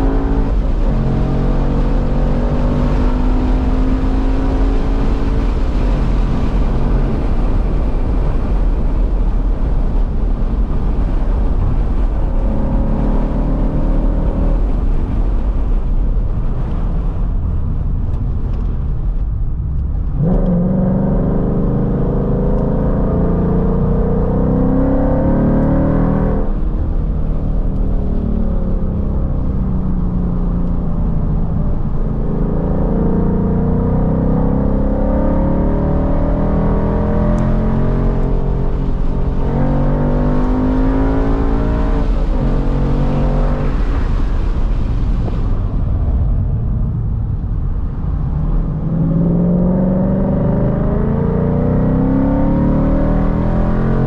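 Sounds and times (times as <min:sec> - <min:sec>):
car engine accelerating hard: 0:00.0 - 0:18.9, 0:19.6 - 0:54.0.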